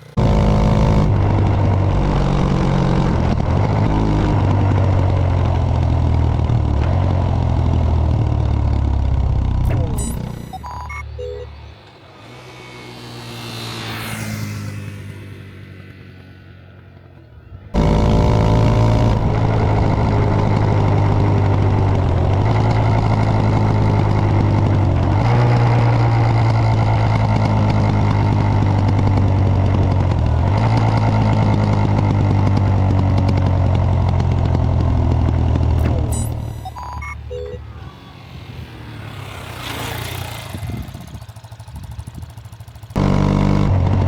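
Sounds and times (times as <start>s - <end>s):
motorcycle engine running: 0.0s - 16.2s, 16.8s - 44.0s.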